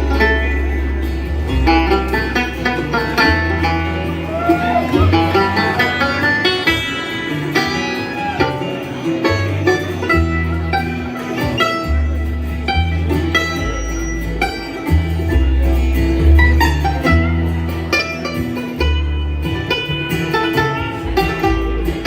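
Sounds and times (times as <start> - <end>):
banjo picking: 0.0 - 22.0
bass line: 0.0 - 22.0
guitar picking: 0.0 - 22.0.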